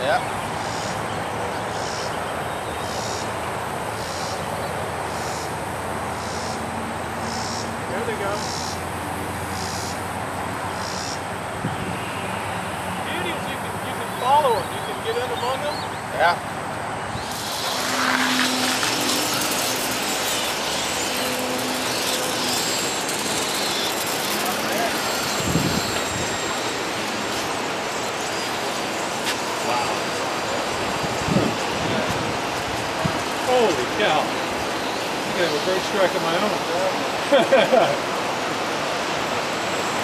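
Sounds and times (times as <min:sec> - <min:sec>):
starlings chattering: 0:00.0 - 0:37.2
outdoor background hiss: 0:00.0 - 0:40.0.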